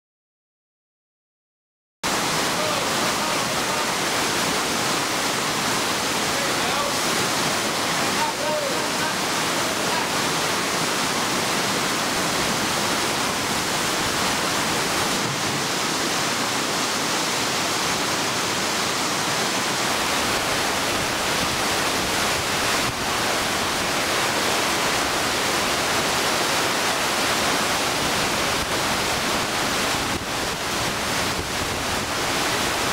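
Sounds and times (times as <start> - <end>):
whitewater rushing through channel: 2.1 - 32.9.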